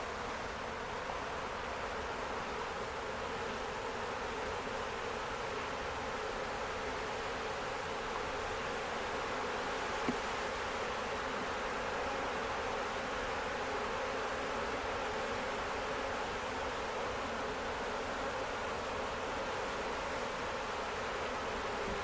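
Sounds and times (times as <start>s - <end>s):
bee swarm buzzing: 0.1s - 22.0s.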